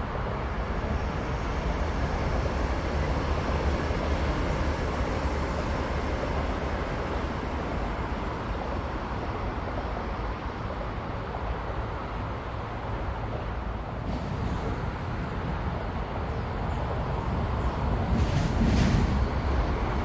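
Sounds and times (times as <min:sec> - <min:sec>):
high-speed train rushing past: 0:00.0 - 0:20.0.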